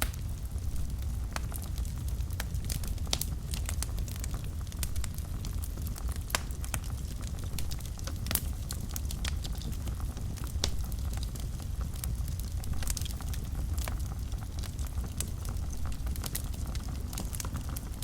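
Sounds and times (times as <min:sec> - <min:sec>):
fire crackling and popping: 0:00.0 - 0:18.0
fire flames rumbling: 0:00.0 - 0:18.0.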